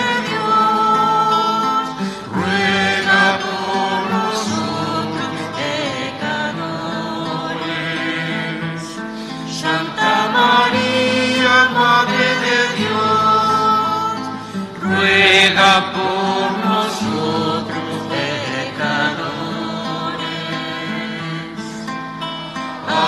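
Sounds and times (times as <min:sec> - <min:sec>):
voices singing a hymn: 0:00.0 - 0:23.0.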